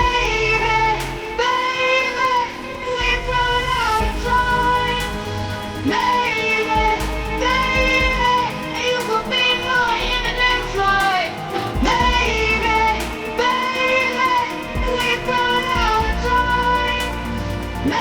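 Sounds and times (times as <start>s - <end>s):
pop song with vocal and guitar: 0.0s - 18.0s.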